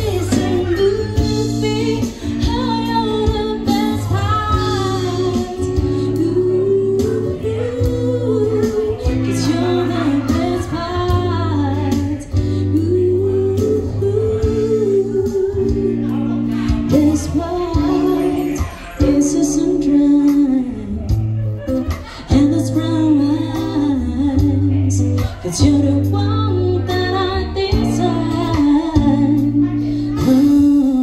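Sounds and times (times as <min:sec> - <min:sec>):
acoustic guitar: 0:00.0 - 0:31.0
low bass: 0:00.0 - 0:31.0
woman singing into microphone: 0:00.0 - 0:31.0.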